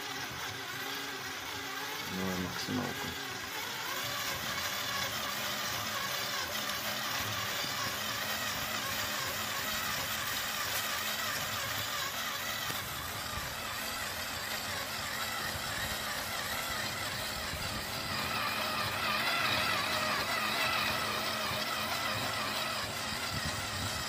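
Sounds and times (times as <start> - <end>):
electric motor and gears whirring: 0.0 - 24.0.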